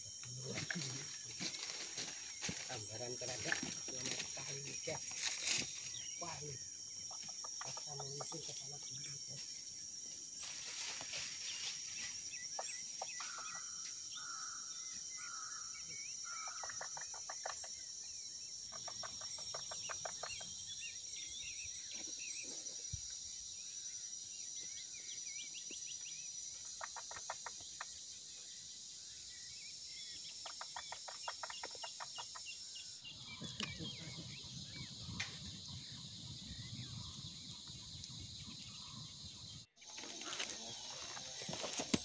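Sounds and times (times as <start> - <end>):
birds calling: 0.0 - 42.0.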